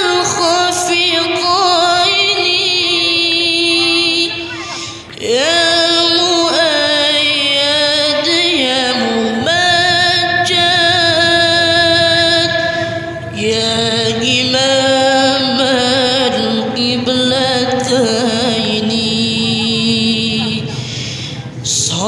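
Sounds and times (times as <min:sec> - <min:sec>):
person singing devotional song: 0:00.0 - 0:22.0.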